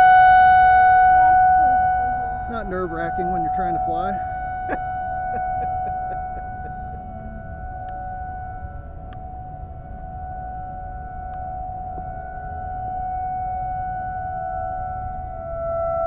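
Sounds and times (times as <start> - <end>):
low rumble: 0.0 - 16.0
warning siren steady tone: 0.0 - 16.0.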